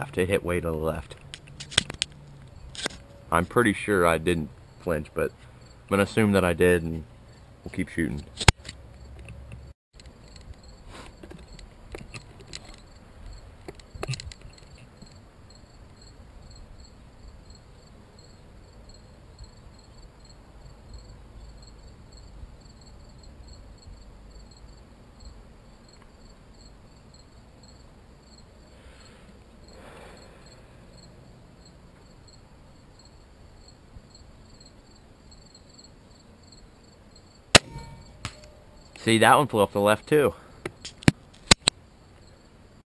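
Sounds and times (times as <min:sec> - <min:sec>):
crickets chirping: 0:00.0 - 0:42.8.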